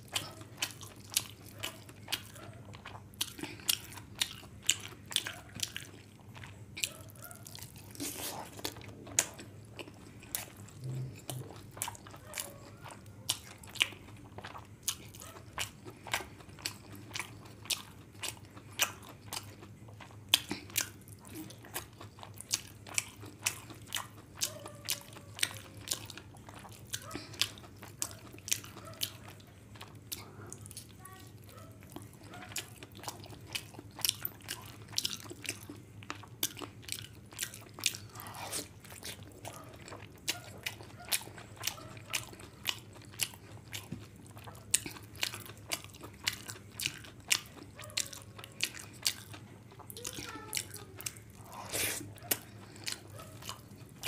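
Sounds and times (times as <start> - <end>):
faint low hum: 0.0 - 54.0
person chewing and smacking: 0.0 - 54.0.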